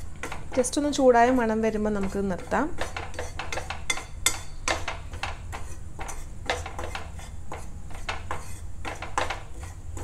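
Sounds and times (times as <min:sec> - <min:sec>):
spoon scraping a dry pan: 0:00.0 - 0:10.0.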